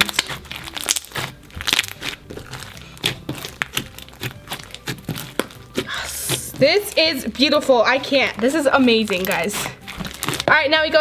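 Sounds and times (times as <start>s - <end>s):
slime crackling and popping: 0.0s - 10.6s.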